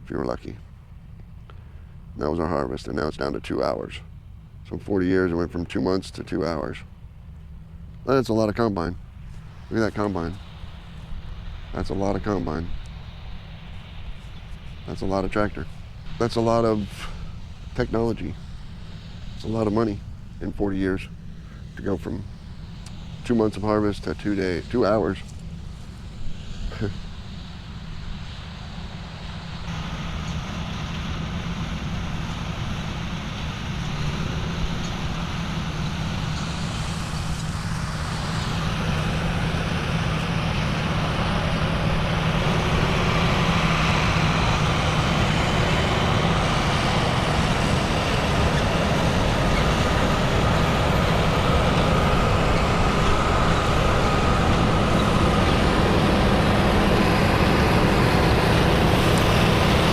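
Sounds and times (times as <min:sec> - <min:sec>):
diesel machinery engine drone: 0:00.0 - 0:59.9
high mechanical whine: 0:00.0 - 0:59.9.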